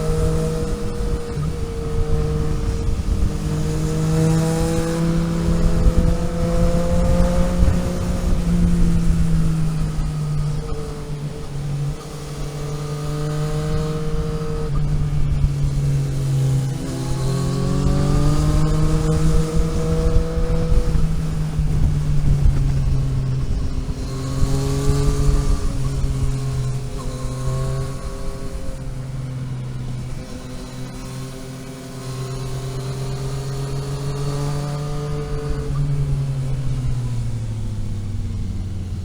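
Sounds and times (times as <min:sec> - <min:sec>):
vehicle engine accelerating: 0:00.0 - 0:39.0.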